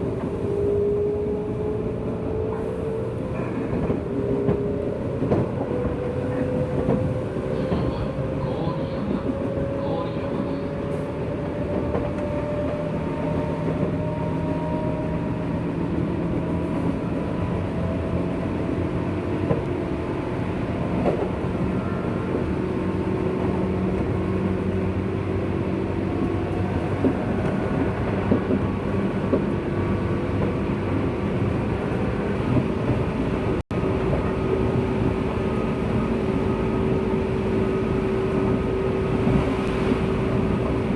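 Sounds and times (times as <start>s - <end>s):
wheel and rail rumble: 0.0s - 40.9s.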